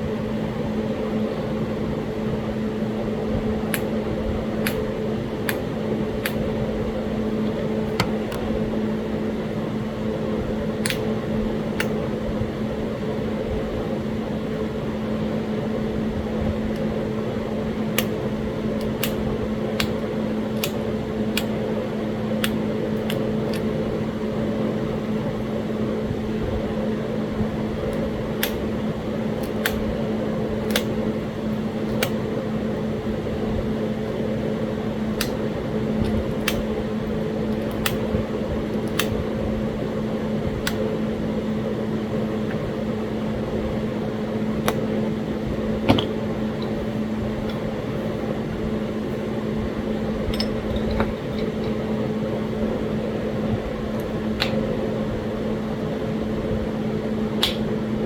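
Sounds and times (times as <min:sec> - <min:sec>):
mechanical fan hum: 0:00.0 - 0:58.0.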